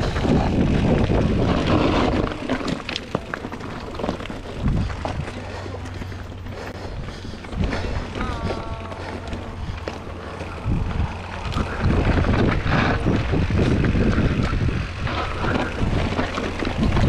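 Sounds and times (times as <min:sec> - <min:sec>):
bike rattling: 0:00.0 - 0:17.0
tyres rolling over dirt and stones: 0:00.0 - 0:17.0
wind buffeting microphone: 0:00.0 - 0:17.0.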